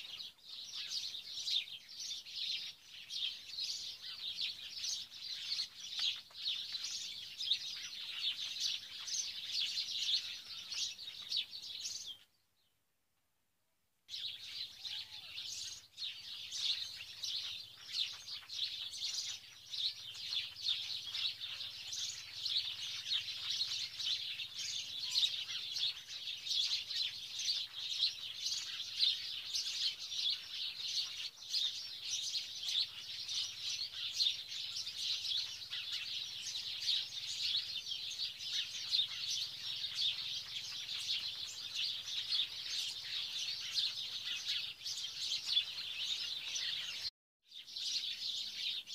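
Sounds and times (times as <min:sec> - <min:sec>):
many birds chirping: 0:00.0 - 0:12.4, 0:14.1 - 0:48.9.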